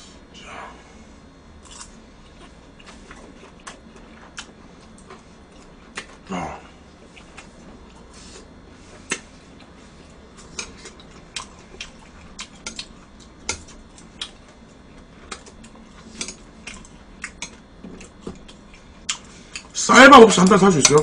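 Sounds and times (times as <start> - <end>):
chewing: 1.6 - 6.3, 7.0 - 19.7.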